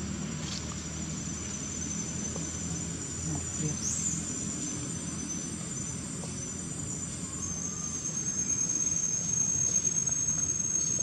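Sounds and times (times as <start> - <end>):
low steady rumble: 0.0 - 11.0
insects calling in high tones: 1.0 - 11.0.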